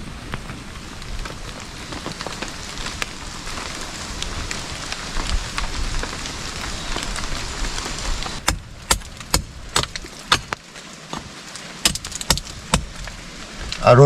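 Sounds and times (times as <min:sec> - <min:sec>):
rain pattering on a tarp: 0:00.0 - 0:14.0.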